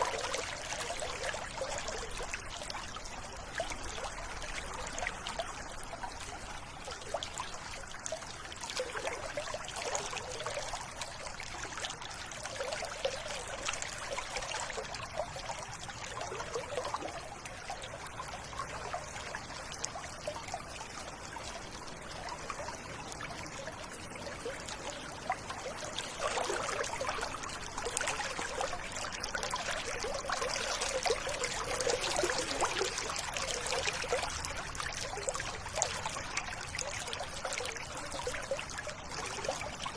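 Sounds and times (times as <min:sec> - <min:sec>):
stream water babbling over stones: 0:00.0 - 0:39.9.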